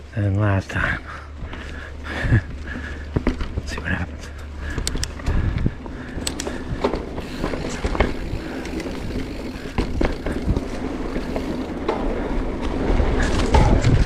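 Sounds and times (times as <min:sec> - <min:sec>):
bike tyres on dirt: 0:00.0 - 0:14.0
bike clicks and rattles: 0:00.2 - 0:14.0.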